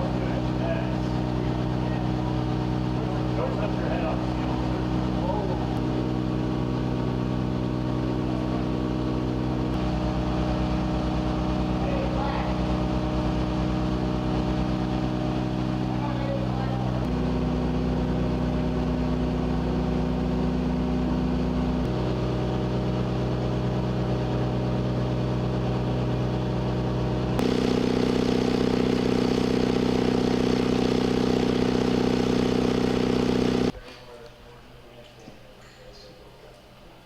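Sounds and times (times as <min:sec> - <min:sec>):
engine-driven pumps running: 0:00.0 - 0:33.8.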